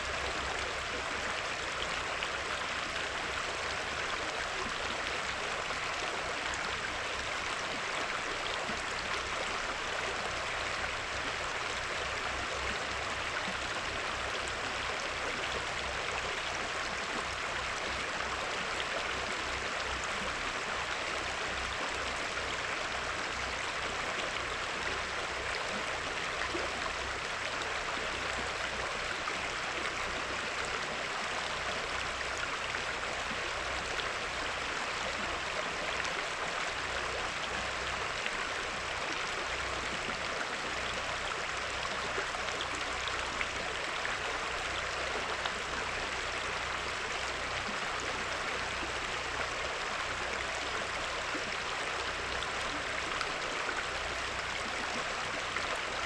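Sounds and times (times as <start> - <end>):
river flowing over rocks: 0.0 - 56.0.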